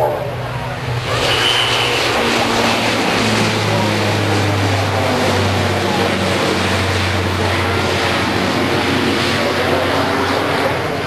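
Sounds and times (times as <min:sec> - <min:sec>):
deep propeller drone: 0:00.0 - 0:11.0
rushing engine noise: 0:00.0 - 0:11.0.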